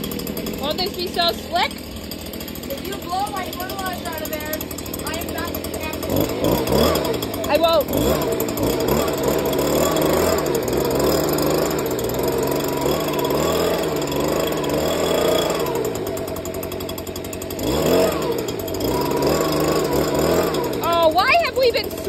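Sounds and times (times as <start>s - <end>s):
leaf blower revving: 0.0s - 22.0s.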